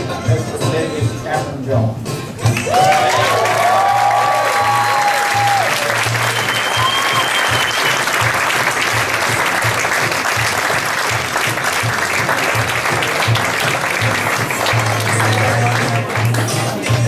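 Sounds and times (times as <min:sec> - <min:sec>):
music playing: 0:00.0 - 0:17.0
crowd clapping: 0:02.4 - 0:17.0.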